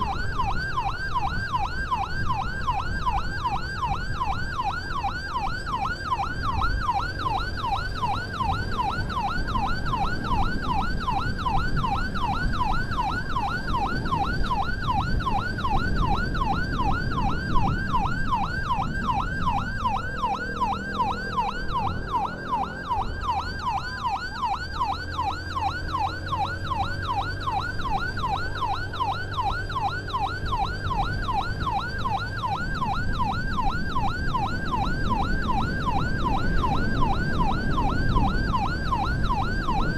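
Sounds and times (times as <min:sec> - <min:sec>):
ambulance siren yelping: 0:00.0 - 0:39.9
vehicle rumble on road: 0:00.0 - 0:39.9.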